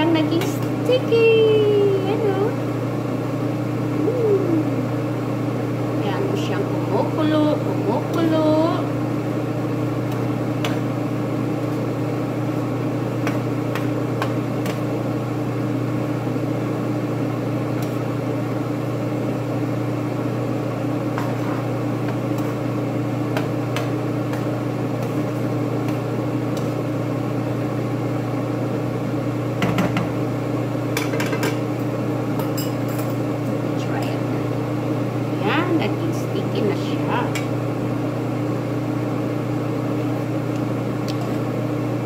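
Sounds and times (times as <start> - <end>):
vent fan motor hum: 0.0 - 42.0.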